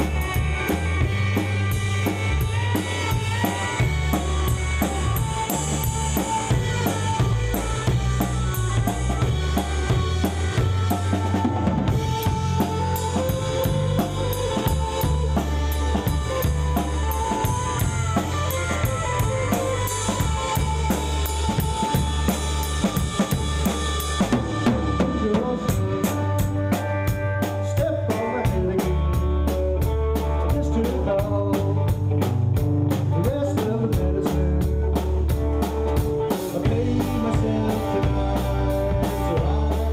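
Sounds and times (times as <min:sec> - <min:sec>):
drum kit beat: 0:00.0 - 0:39.9
rock band playing live: 0:00.0 - 0:39.9.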